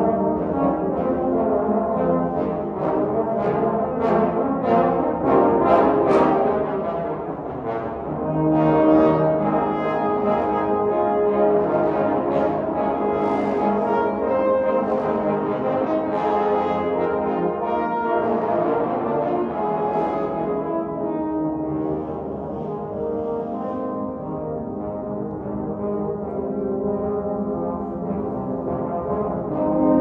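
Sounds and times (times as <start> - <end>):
bass trombone solo: 0.0 - 27.8
trombone choir playing: 0.0 - 30.0.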